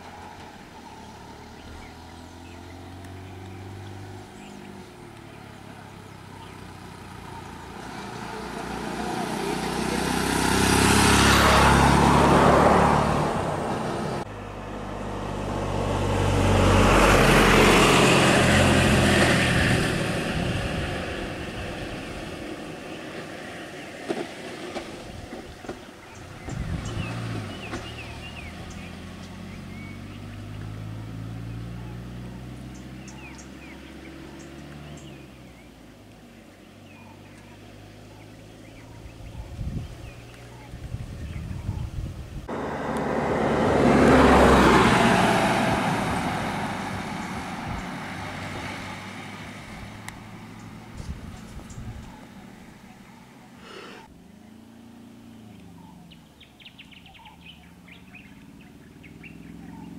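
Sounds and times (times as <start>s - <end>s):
vehicle engine running: 0.0s - 59.9s
vehicles driving past: 0.0s - 59.9s.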